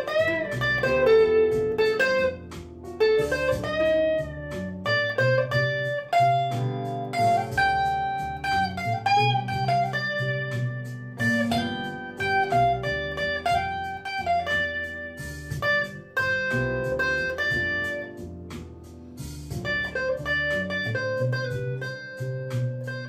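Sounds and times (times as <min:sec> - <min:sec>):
blues guitar plucked notes: 0:00.0 - 0:23.0
repeating low bass: 0:00.0 - 0:23.0.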